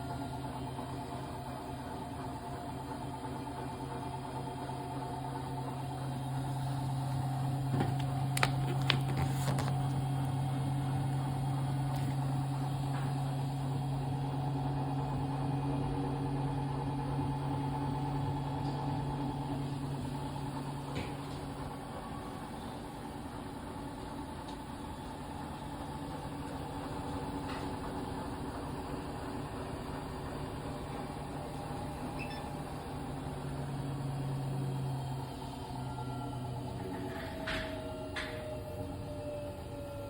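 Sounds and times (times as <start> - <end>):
washing machine humming: 0.0 - 40.0.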